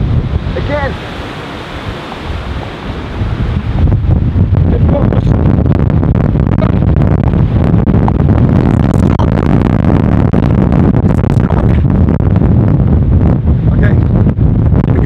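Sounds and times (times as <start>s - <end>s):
storm wind on microphone: 0.0s - 15.0s.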